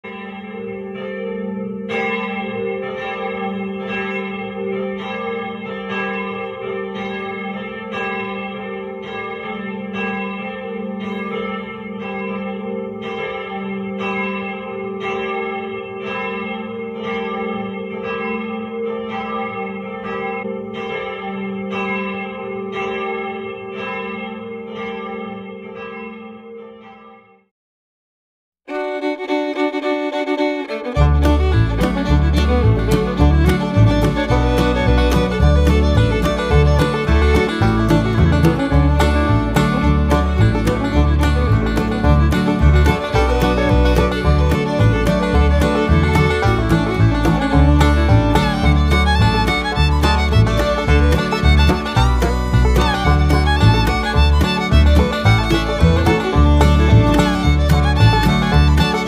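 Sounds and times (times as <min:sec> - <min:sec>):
church bells pealing: 0:00.0 - 0:27.2, 0:30.1 - 0:59.0.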